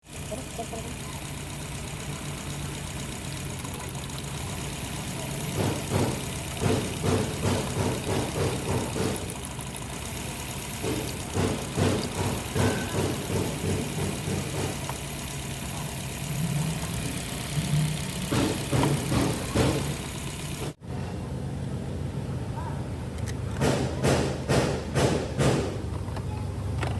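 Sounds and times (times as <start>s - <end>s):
car engine idling unevenly: 0.0s - 26.9s.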